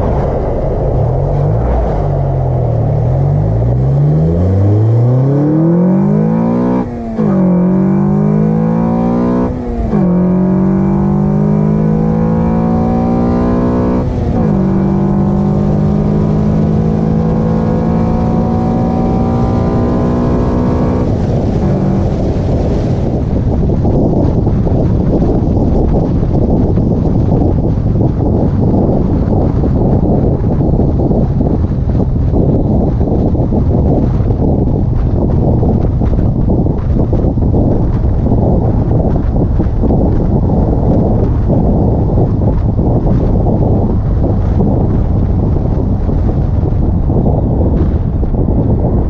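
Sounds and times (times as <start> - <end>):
car engine accelerating: 0.0 - 49.0.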